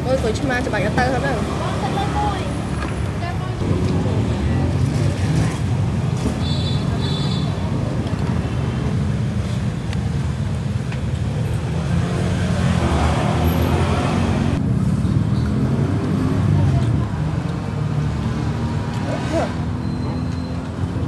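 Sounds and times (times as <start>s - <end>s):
passing motorbikes and cars: 0.0s - 21.0s.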